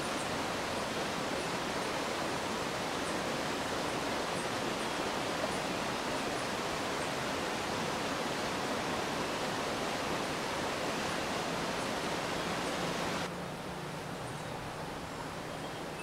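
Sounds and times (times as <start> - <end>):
stream water rushing: 0.0 - 13.3.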